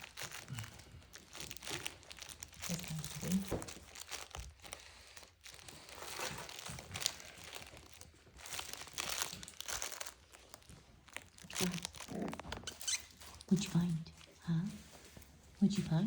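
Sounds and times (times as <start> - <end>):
puppies playing: 0.0 - 15.9
crinkling and rustling: 0.0 - 16.0.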